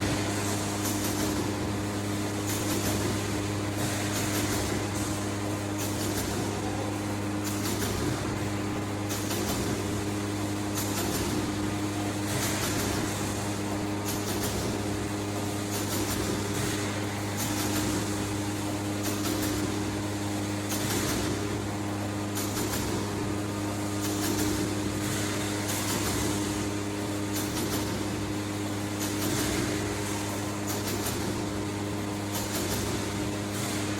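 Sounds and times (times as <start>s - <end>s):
machine electrical hum: 0.0s - 33.9s.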